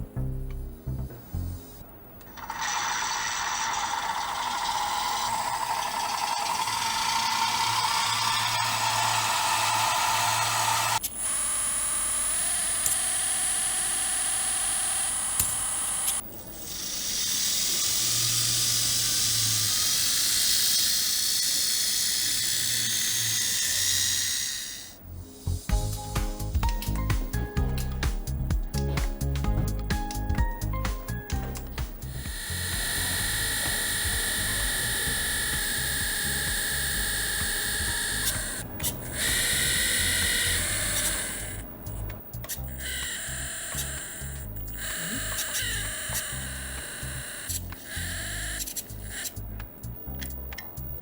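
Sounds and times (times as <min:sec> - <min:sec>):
electric hydraulic pump whining: 0:00.0 - 0:51.0.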